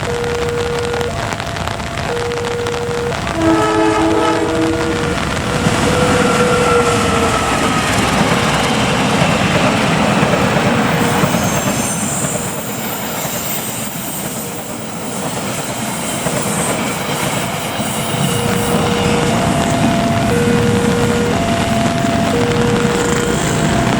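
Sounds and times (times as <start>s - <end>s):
train clattering over rails: 0.0s - 23.9s.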